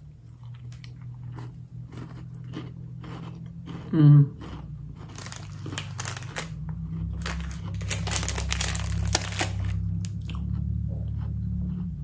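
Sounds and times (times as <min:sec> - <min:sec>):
steady low hum: 0:00.0 - 0:12.0
cookie crunching: 0:00.2 - 0:12.0.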